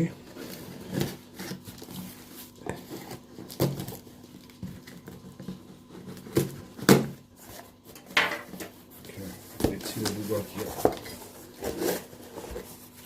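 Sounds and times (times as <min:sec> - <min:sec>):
package rustling: 0:00.2 - 0:13.0.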